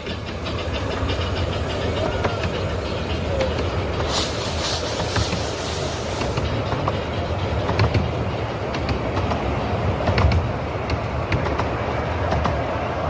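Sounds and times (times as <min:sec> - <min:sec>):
train carriages rumbling past: 0:00.0 - 0:13.0
wheels clicking on track: 0:00.0 - 0:13.0.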